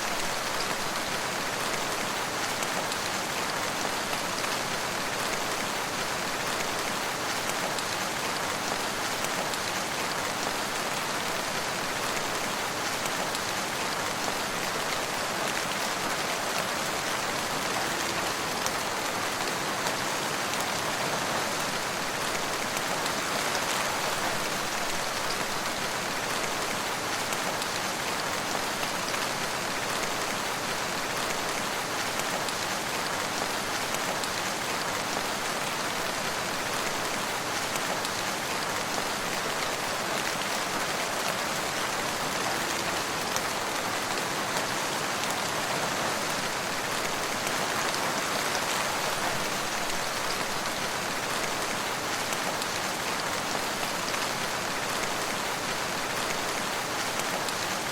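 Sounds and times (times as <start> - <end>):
rain pattering on surfaces: 0.0 - 57.9.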